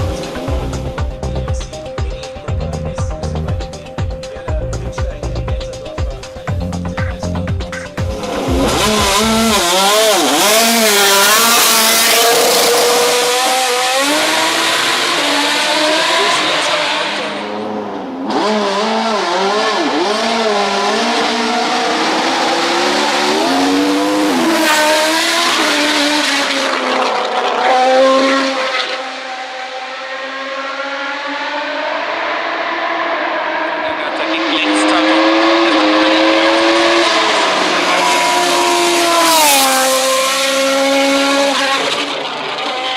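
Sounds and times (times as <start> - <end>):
race car engine at high revs: 0.0 - 1.2, 7.9 - 42.9.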